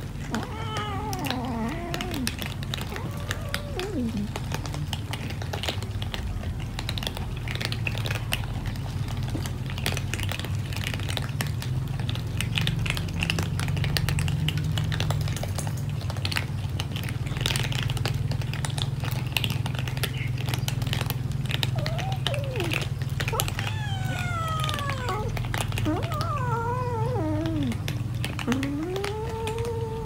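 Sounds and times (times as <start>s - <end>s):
cats crunching dry kibble: 0.0s - 30.0s.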